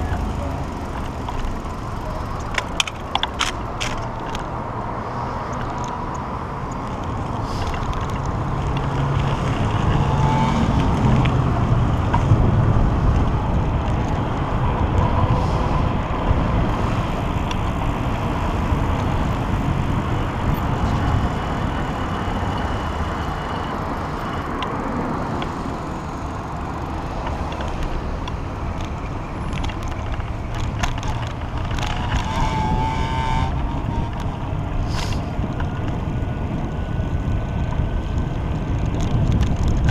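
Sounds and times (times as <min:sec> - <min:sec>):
traffic noise: 0:00.0 - 0:39.9
wind and road noise: 0:00.0 - 0:39.9.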